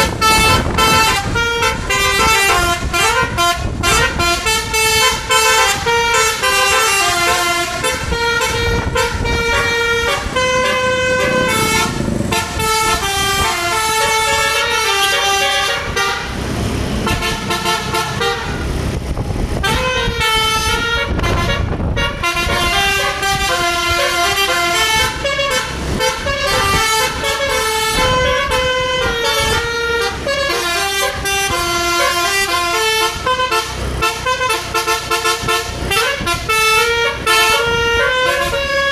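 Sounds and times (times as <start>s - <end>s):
musical air horn tunes: 0.0s - 16.3s, 17.0s - 18.7s, 19.6s - 38.9s
bus running and road noise: 0.0s - 38.9s.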